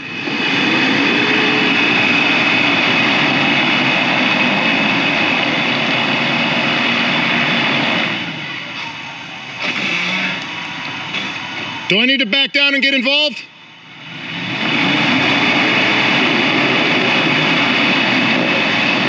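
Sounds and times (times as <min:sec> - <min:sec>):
off-road engines revving hard: 0:00.0 - 0:13.0, 0:13.9 - 0:19.0.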